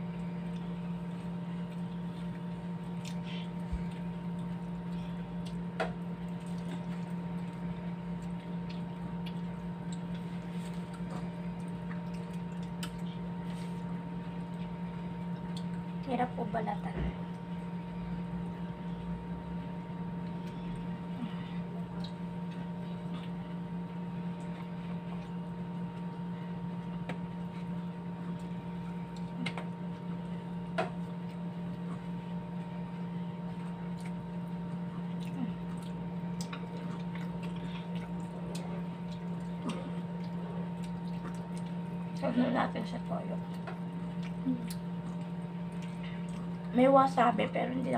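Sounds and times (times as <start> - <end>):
soft chewing: 0.0 - 16.1, 17.2 - 42.3, 43.0 - 46.8
low electrical hum: 0.0 - 47.9.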